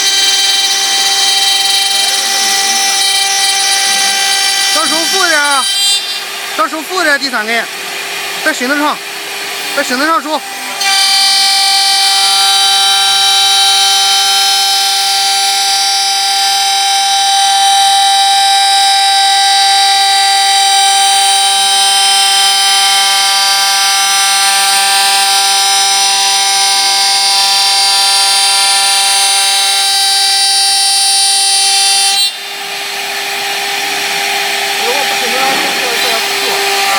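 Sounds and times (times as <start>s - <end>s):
wood lathe whining: 0.0s - 36.9s.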